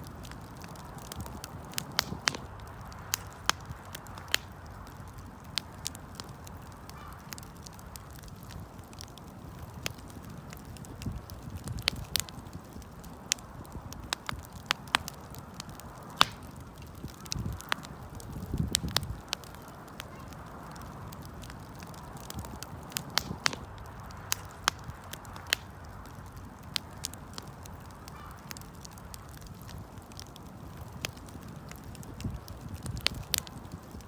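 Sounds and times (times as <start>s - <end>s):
wood campfire crackling: 0.0s - 34.0s.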